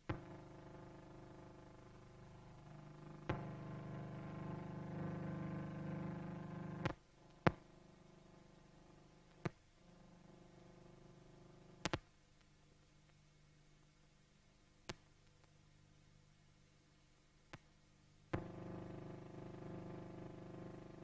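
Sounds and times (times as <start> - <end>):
faint buzzing hum: 0.0 - 21.0
low hiss: 0.0 - 21.0.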